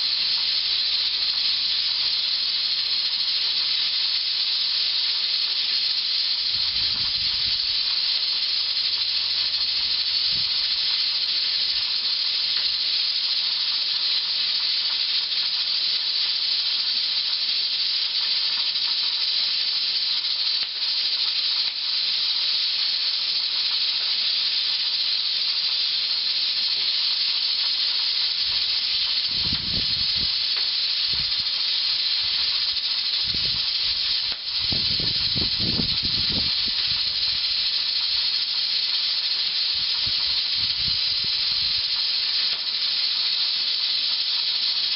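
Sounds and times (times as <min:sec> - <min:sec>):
pressure canner hissing steam: 0:00.0 - 0:44.9.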